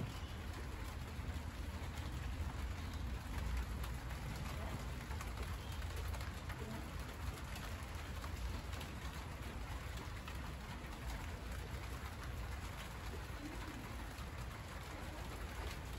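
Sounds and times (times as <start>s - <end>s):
rain pattering on leaves: 0.0s - 15.9s.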